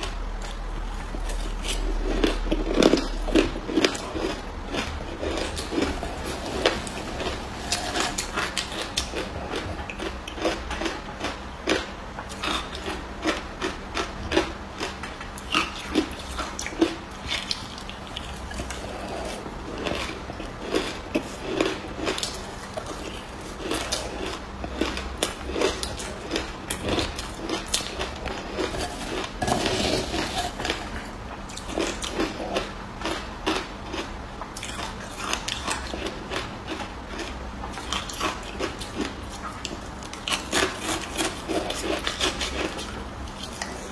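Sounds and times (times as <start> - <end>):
person chewing ice: 0.0 - 43.9.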